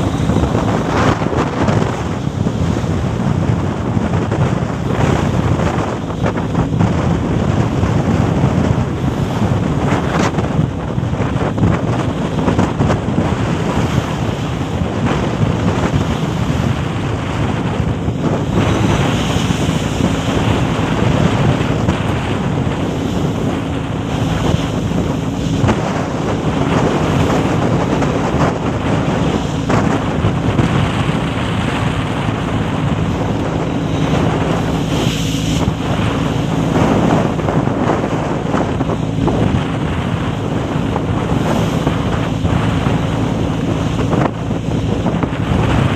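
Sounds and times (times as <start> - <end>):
boat engine running: 0.0 - 45.9
water rushing past hull: 0.0 - 45.9
wind buffeting microphone: 0.0 - 45.9.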